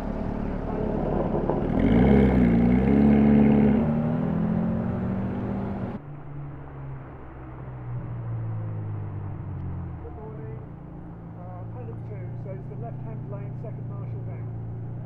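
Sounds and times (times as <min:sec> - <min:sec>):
car engine revving past: 0:00.0 - 0:12.1
low engine hum: 0:00.0 - 0:15.0.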